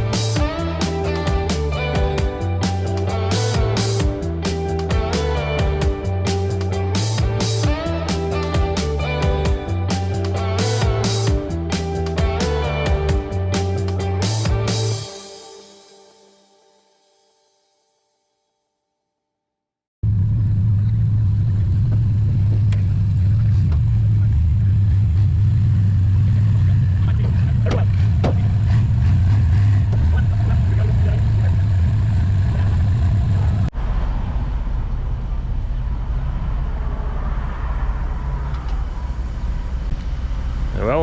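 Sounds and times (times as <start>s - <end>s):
vehicle engine and road rumble: 0.0s - 15.1s, 20.0s - 41.0s.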